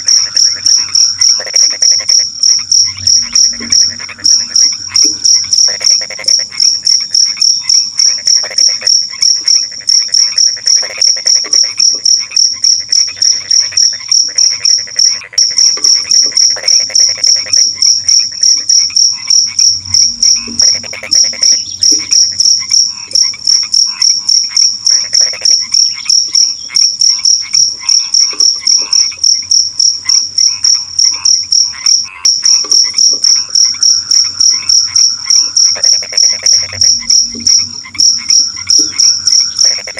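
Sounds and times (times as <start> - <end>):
cricket chirping: 0.0 - 39.9
frogs croaking: 0.0 - 39.9.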